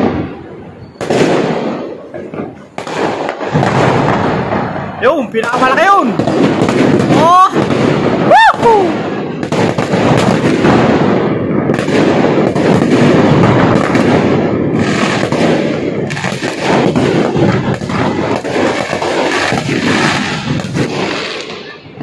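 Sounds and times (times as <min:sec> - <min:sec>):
fireworks barrage: 0:00.0 - 0:22.0.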